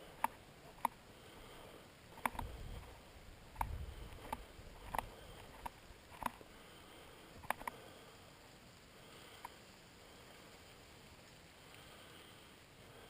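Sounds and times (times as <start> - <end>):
light rain hiss: 0.0 - 13.0.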